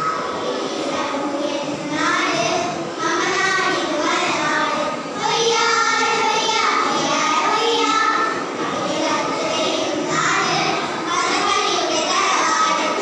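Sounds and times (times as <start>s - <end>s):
girls singing in unison: 1.6s - 13.0s.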